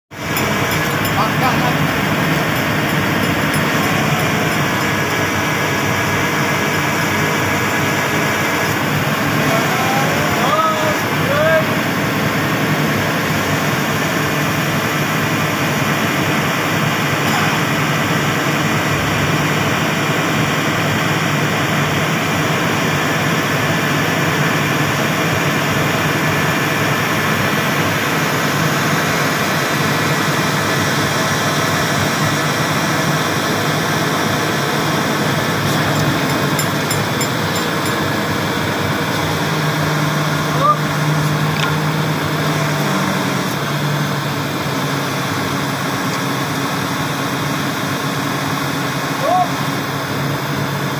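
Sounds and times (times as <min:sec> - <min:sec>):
diesel engine running: 0:00.1 - 0:50.9.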